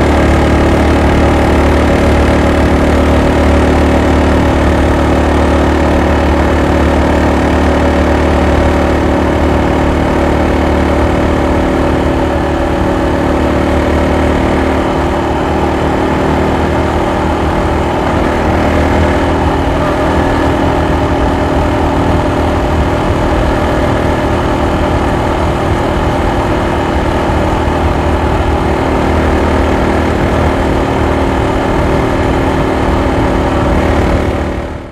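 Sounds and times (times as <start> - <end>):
motorcycle engine cruising: 0.0 - 34.9.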